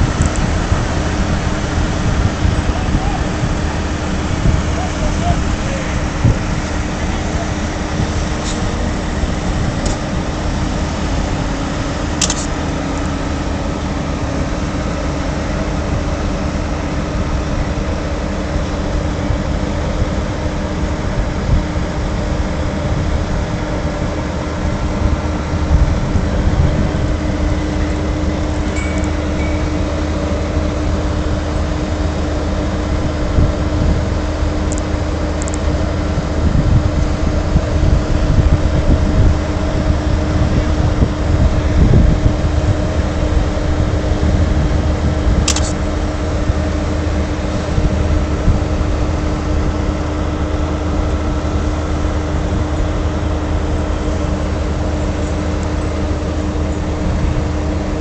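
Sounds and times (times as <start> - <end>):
truck diesel engines rumbling: 0.0 - 58.0.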